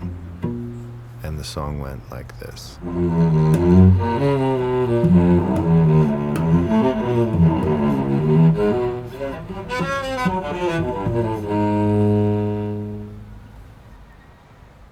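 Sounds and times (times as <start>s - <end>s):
cello playing bowed melody: 0.0s - 1.7s, 2.8s - 14.0s.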